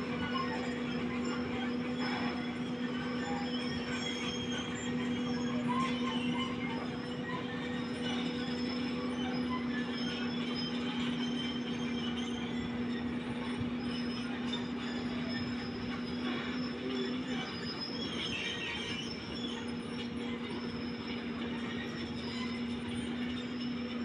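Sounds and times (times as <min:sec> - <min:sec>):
steel tracks grinding and squeaking: 0:00.0 - 0:24.0.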